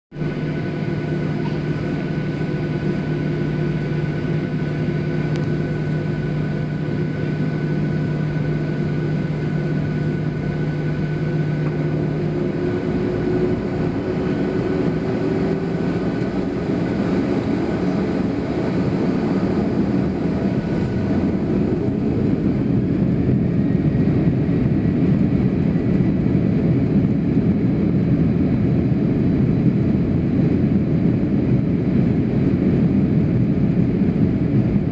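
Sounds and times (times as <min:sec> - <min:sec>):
jet engines hum with whine: 0:00.1 - 0:34.9.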